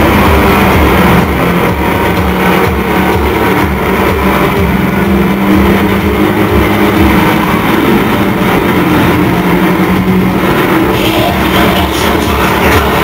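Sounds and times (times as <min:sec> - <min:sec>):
industrial rock band playing: 0:00.0 - 0:13.0.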